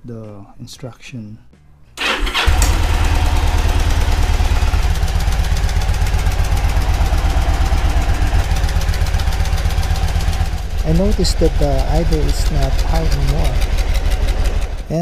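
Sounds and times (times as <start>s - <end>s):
motorcycle engine idling: 2.0s - 15.0s.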